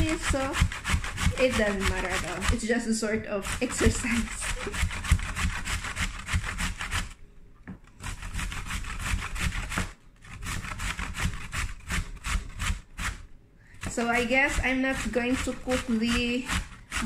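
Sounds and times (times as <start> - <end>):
vegetable grated on metal grater: 0.0 - 7.2, 7.9 - 17.0.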